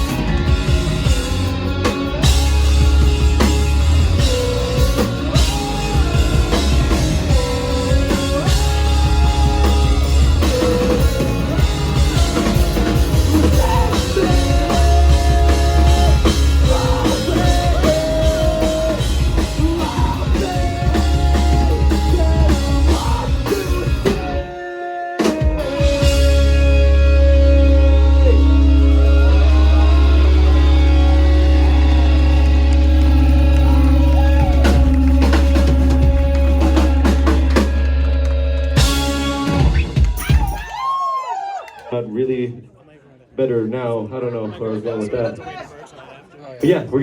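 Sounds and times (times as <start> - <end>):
bass guitar: 0.0 - 24.6, 25.2 - 40.7
drum kit: 0.0 - 24.6, 25.2 - 41.0
electric guitar lead line: 0.0 - 24.6, 25.2 - 40.3.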